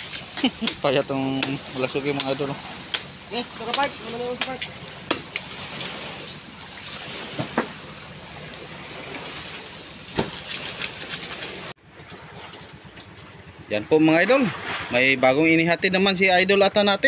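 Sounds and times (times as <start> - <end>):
water splashing against boat hulls: 0.0 - 15.3.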